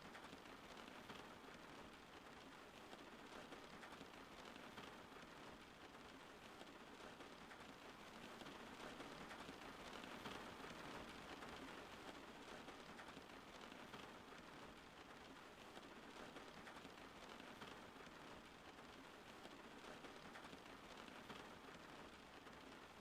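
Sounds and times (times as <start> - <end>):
faint steady rain: 0.0 - 23.0.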